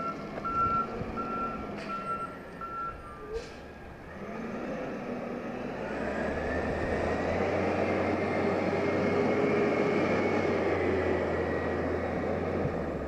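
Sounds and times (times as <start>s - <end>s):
garbage truck diesel engine: 0.0s - 13.0s.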